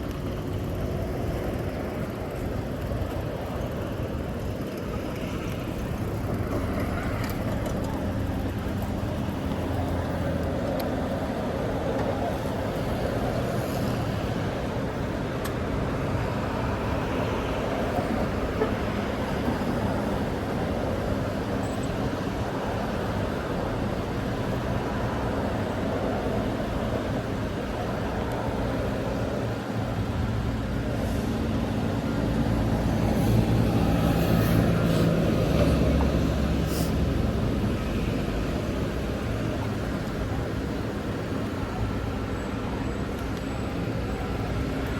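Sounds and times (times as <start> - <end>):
street traffic noise: 0.0 - 44.9
vehicle engine hum passing: 0.1 - 44.9.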